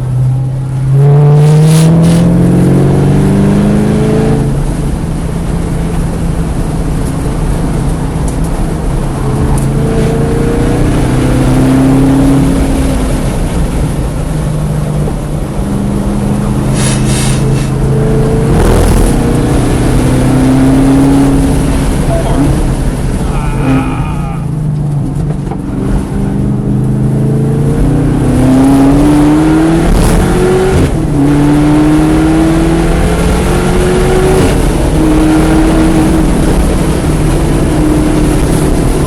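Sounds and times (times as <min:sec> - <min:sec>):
road and wind noise: 0:00.0 - 0:39.0
race car engine revving: 0:00.6 - 0:04.7, 0:08.8 - 0:13.5, 0:15.2 - 0:39.0.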